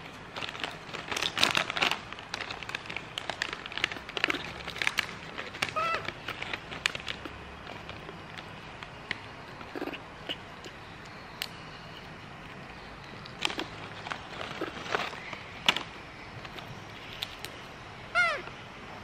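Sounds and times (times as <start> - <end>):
plastic snack bag crinkling: 0.0 - 17.6.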